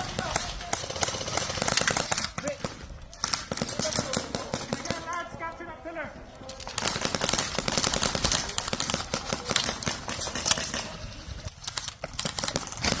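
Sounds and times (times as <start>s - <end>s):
airsoft guns firing bursts: 0.0s - 5.2s, 6.7s - 13.0s.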